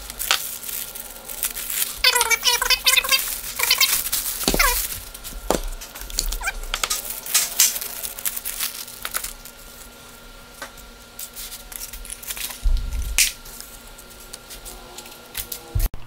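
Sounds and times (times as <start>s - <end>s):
plastic packaging crinkling: 0.0s - 15.6s.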